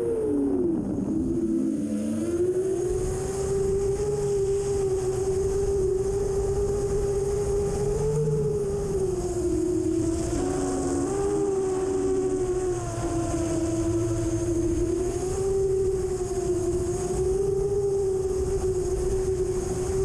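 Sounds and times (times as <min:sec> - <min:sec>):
drone propellers whining: 0:00.0 - 0:20.0
low wind rumble: 0:00.0 - 0:20.0.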